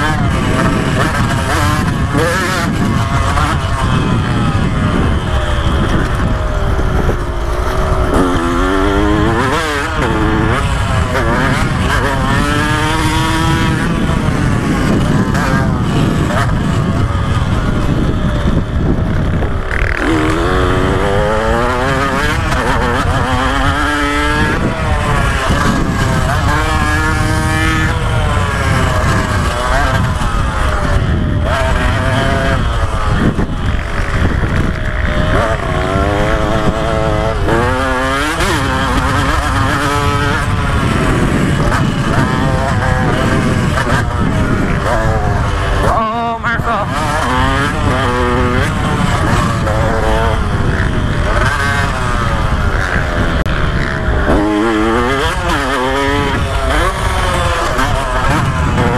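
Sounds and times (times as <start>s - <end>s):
two-stroke engine revving hard: 0.0s - 58.9s.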